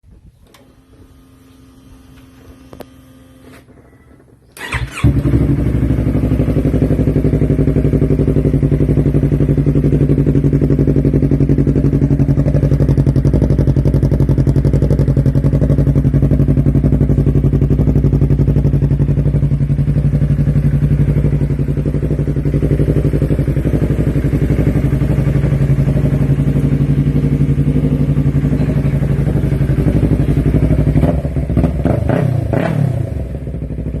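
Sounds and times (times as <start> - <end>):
motorcycle engine starting and idling: 0.1 - 34.0.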